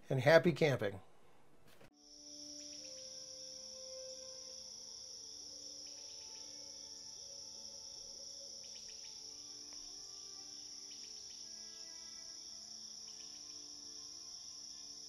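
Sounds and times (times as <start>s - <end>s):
ambient music: 1.9s - 15.0s
crickets chirping: 1.9s - 15.0s.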